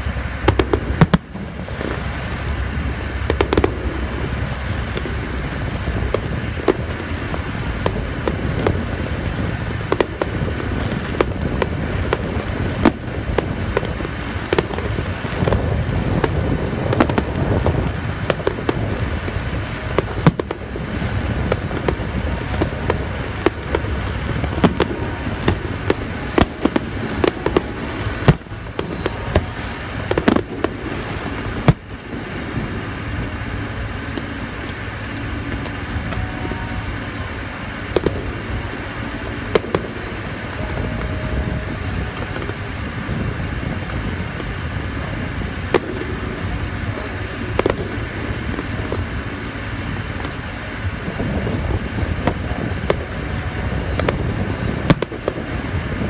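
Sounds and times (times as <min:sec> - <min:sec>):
fireworks bursting and crackling: 0:00.0 - 0:56.0
low background rumble: 0:00.0 - 0:56.0.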